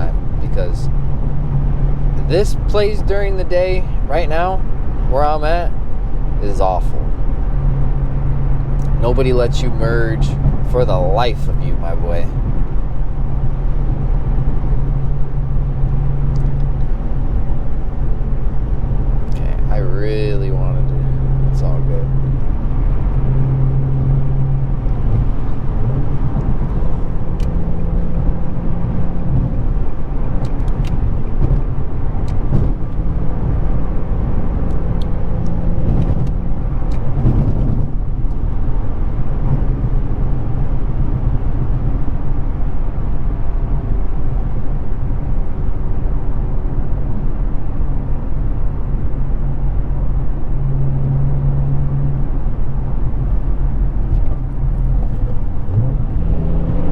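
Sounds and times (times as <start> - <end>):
car exhaust drone while cruising: 0.0 - 56.9
tyre and road noise: 0.0 - 56.9.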